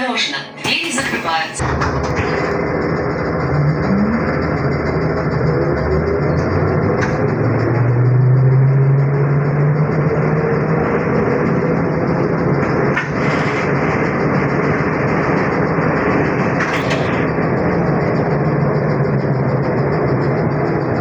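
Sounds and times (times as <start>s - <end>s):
trolleybus motor rumble: 0.0s - 21.0s
low hum: 1.1s - 21.0s.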